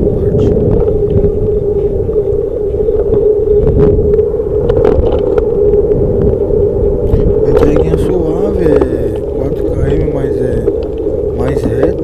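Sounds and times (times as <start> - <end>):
wind rush over microphone: 0.0 - 12.0.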